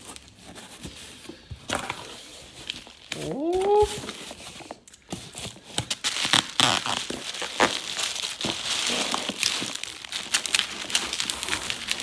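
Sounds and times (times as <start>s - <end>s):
packing material crinkling: 1.7s - 12.0s.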